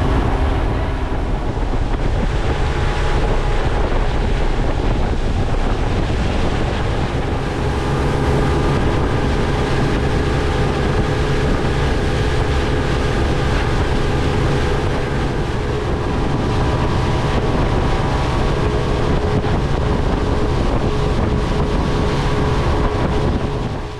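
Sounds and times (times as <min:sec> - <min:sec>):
outboard motors droning: 0:00.0 - 0:23.9
water rushing off hull: 0:00.0 - 0:23.9
wind buffeting microphone: 0:00.0 - 0:23.9.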